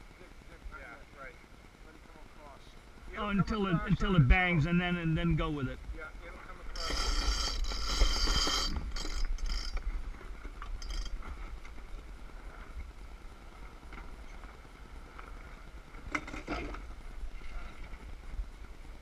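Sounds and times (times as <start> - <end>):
wind and water rumble: 0.0 - 19.0
sails rustling: 3.2 - 19.0.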